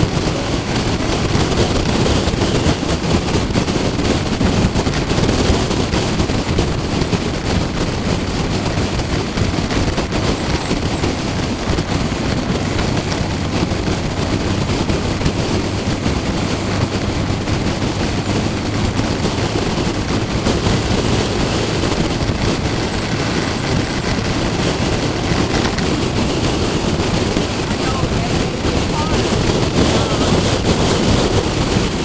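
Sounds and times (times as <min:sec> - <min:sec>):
motorcycle engine hum: 0:00.0 - 0:32.0
road noise: 0:00.0 - 0:32.0
wind buffeting microphone: 0:00.0 - 0:32.0.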